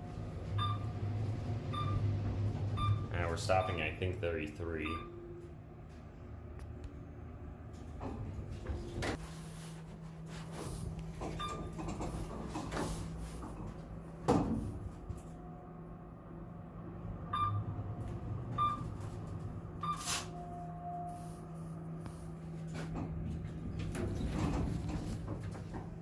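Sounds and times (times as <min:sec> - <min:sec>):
elevator low hum: 0:00.0 - 0:26.0.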